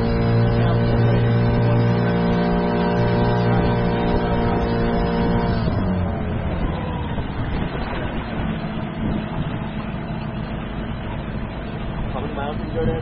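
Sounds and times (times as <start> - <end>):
deep rumbling: 0.0 - 13.0
outboard motor running: 0.0 - 13.0.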